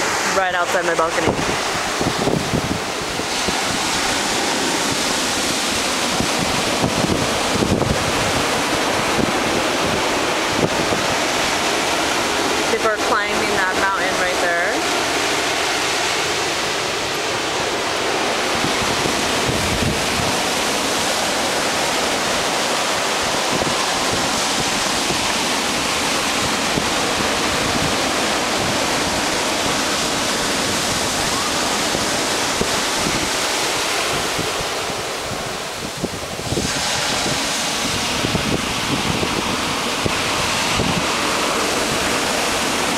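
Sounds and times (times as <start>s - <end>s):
ocean surf breaking: 0.0s - 42.9s.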